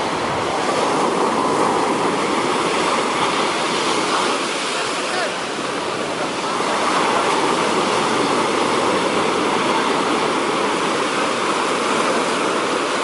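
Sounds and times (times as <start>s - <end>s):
heavy surf breaking on beach: 0.0s - 13.0s.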